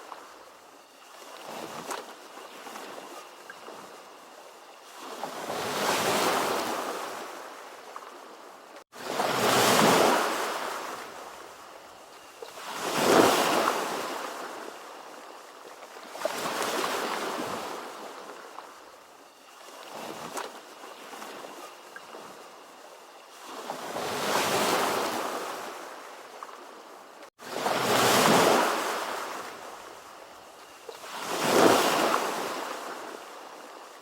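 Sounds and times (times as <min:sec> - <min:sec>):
ocean waves washing ashore: 0:00.0 - 0:34.0.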